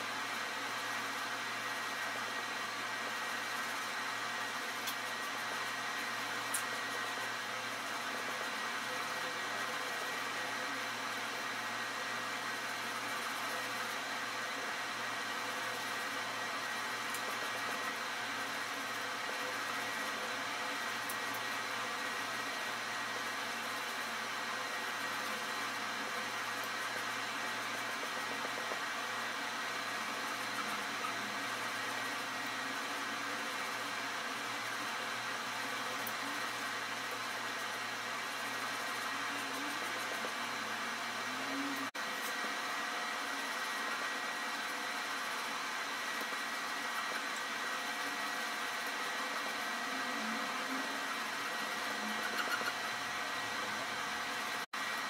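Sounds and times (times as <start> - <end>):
steady whirring noise: 0.0 - 55.0.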